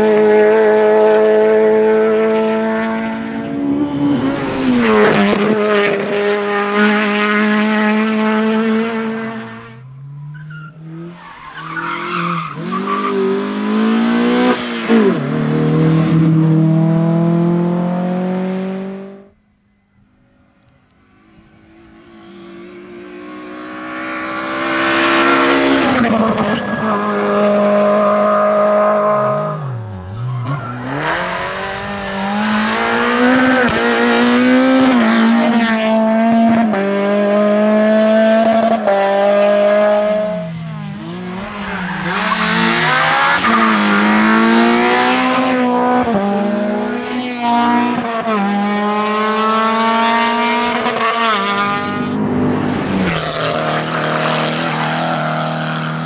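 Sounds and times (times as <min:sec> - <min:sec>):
rally car engines revving past: 0:00.0 - 0:19.4, 0:21.0 - 0:56.0.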